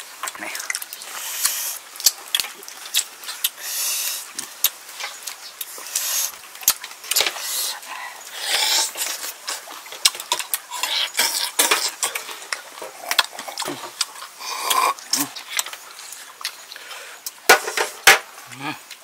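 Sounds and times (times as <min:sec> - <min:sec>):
slurping snails from shells: 0:00.0 - 0:19.0.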